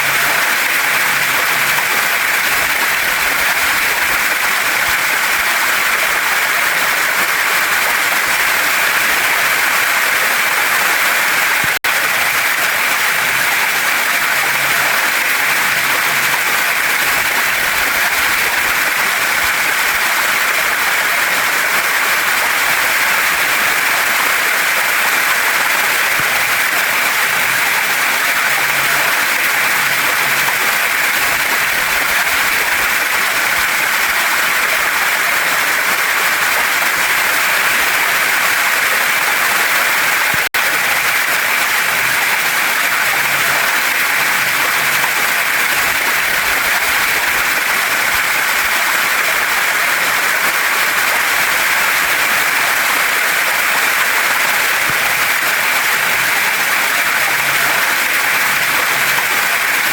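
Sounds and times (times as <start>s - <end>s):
waterfall and stream over rocks: 0.0s - 59.9s.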